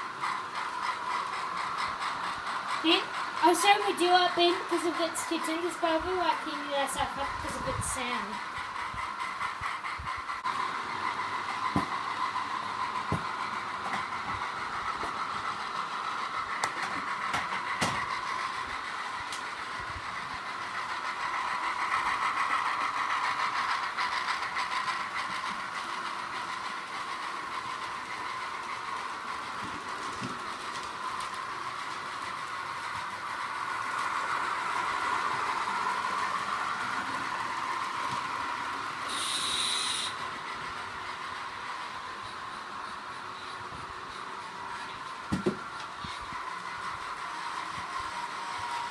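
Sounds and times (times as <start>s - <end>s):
model train motors whirring: 0.0s - 48.9s.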